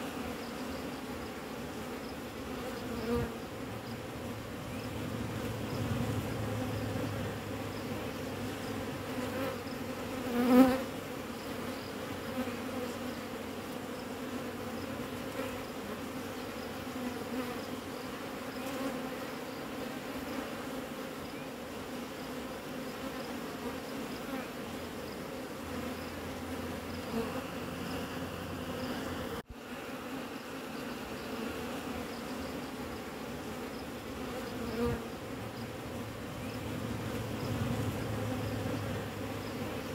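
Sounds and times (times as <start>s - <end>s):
bee buzzing close past: 0.0s - 39.9s
honeybees buzzing: 0.0s - 39.9s.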